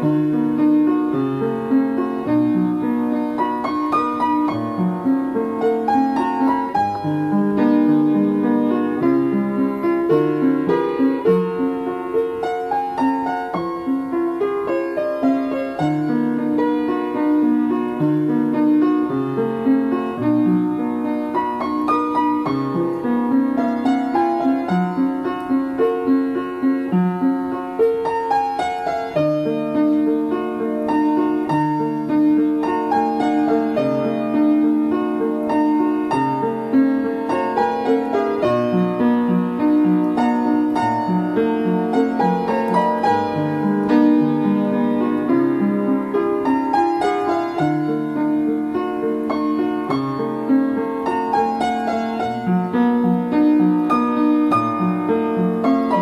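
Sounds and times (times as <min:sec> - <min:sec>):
upright piano playing: 0:00.0 - 0:56.0.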